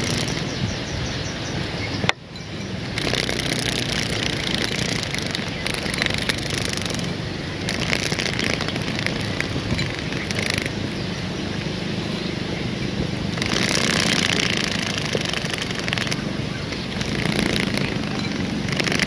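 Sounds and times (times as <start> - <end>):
insect wings buzzing: 0.0 - 1.7, 2.4 - 19.0.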